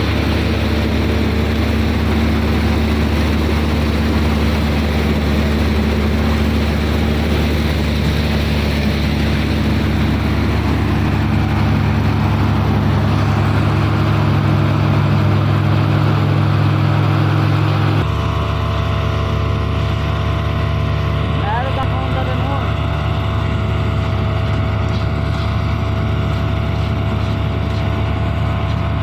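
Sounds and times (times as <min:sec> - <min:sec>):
combine harvester engine drone: 0:00.0 - 0:29.0
machinery noise: 0:00.0 - 0:29.0.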